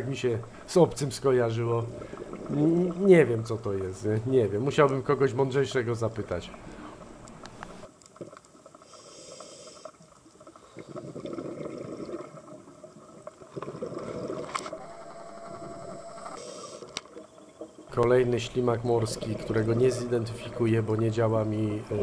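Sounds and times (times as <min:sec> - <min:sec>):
muffled underwater sloshing: 0:00.0 - 0:08.9, 0:10.0 - 0:22.0.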